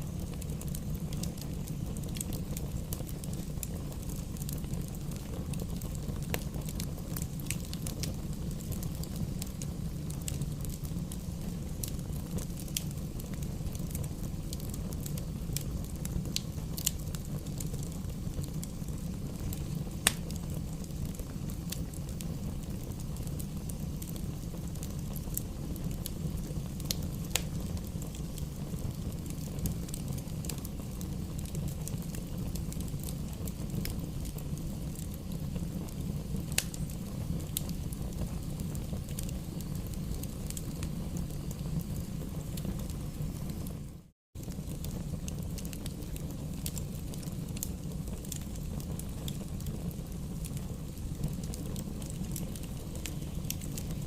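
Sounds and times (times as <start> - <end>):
fire crackling pops: 0.0 - 54.0
low rush of flames: 0.0 - 54.0.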